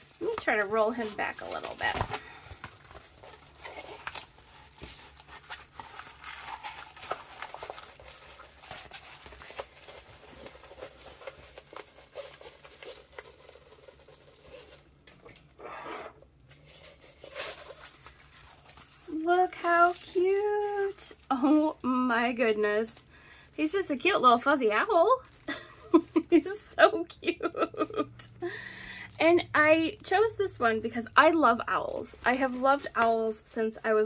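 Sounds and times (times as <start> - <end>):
plastic film crinkling: 0.0 - 15.4, 16.4 - 26.8, 28.4 - 34.0.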